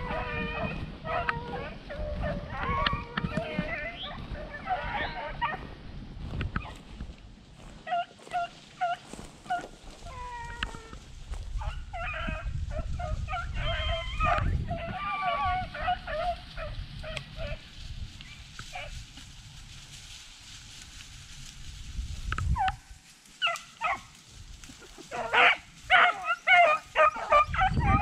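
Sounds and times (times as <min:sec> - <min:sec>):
beagles baying and barking: 0:00.0 - 0:07.0, 0:07.6 - 0:19.2, 0:22.4 - 0:28.0.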